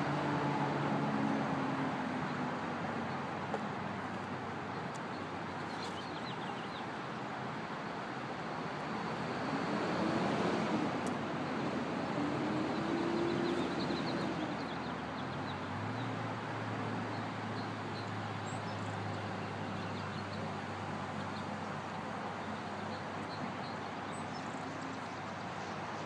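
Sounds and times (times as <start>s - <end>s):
traffic noise: 0.0s - 26.0s
vehicle engine hum: 0.0s - 26.0s.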